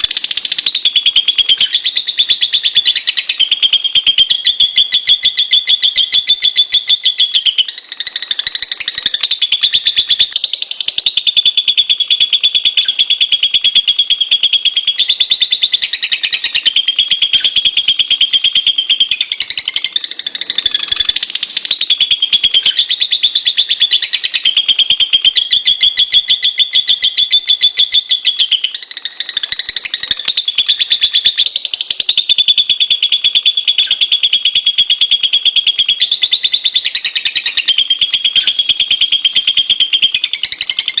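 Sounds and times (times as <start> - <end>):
lovebird chattering trill: 0.0 - 41.0.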